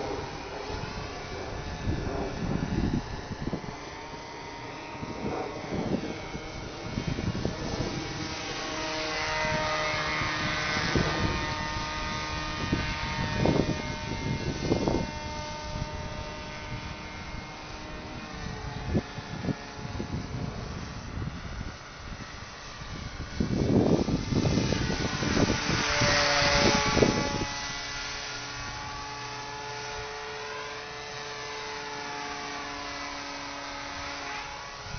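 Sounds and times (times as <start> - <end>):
model airplane motor whining: 0.0 - 34.9
wind buffeting microphone: 0.0 - 34.9.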